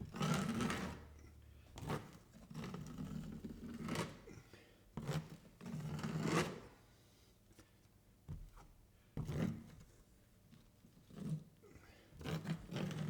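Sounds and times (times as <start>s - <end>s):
drywall knife scraping compound: 0.0s - 1.0s, 1.8s - 6.9s, 8.4s - 13.0s.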